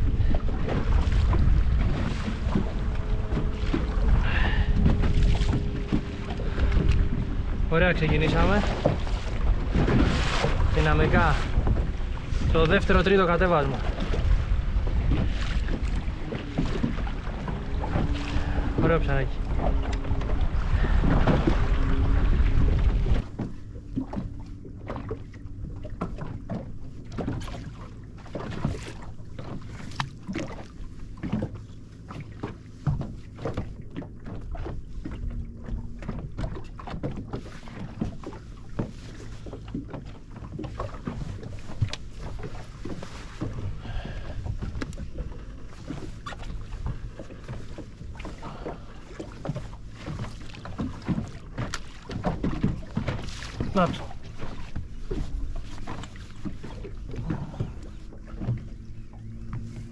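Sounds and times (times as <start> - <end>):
knocks and splashes: 0.0 - 59.9
low steady hum: 0.0 - 59.9
small waves slapping a boat hull: 0.0 - 59.9.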